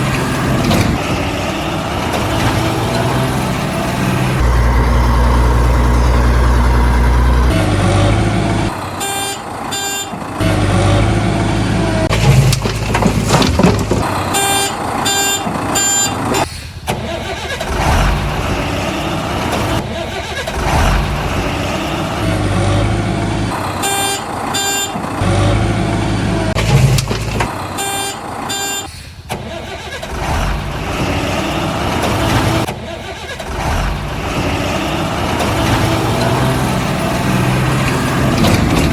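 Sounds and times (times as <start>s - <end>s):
heavy vehicle engine rumble: 0.0s - 38.9s.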